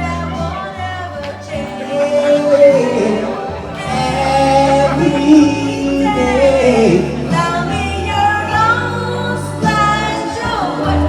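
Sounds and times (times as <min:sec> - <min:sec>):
bass notes: 0:00.0 - 0:11.0
live band playing: 0:00.0 - 0:11.0
person singing: 0:00.0 - 0:11.0.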